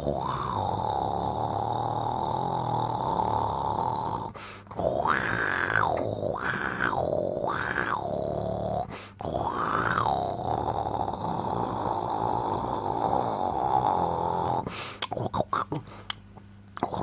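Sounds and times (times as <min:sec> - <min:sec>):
person snoring: 0:00.0 - 0:16.1, 0:16.8 - 0:17.0.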